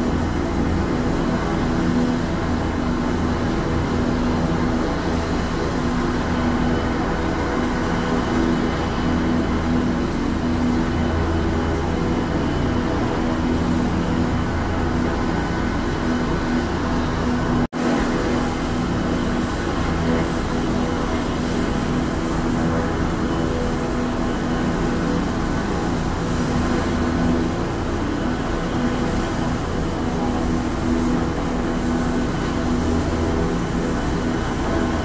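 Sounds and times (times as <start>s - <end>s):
helicopter engines and rotor: 0.0s - 35.0s.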